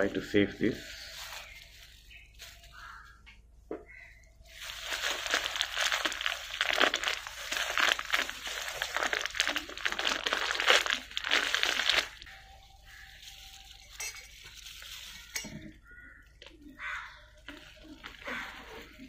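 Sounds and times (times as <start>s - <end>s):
plastic bag and glove crinkling: 0.0s - 3.2s, 4.4s - 19.0s.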